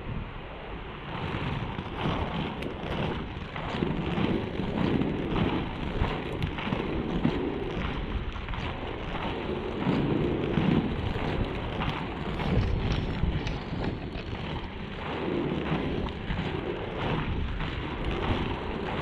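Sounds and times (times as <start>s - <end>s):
wind buffeting microphone: 0.0s - 19.0s
skate wheels rolling on asphalt: 1.0s - 19.0s.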